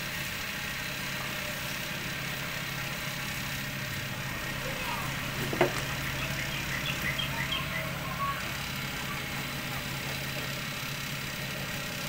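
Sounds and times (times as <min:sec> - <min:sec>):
cotton candy machine motor hum: 0:00.0 - 0:12.0.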